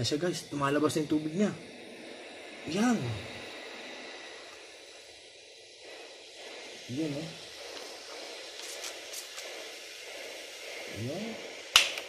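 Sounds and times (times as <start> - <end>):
steam iron hissing: 0.0 - 12.0.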